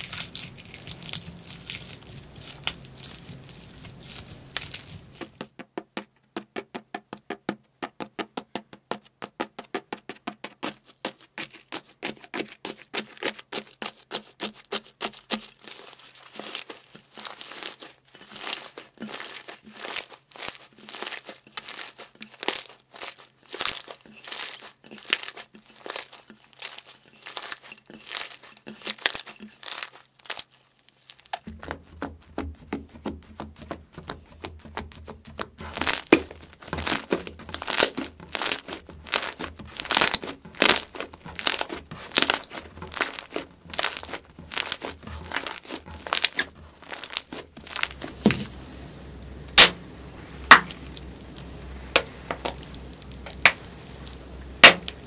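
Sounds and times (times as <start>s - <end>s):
hands kneading sticky slime: 0.0s - 5.5s, 10.4s - 55.0s.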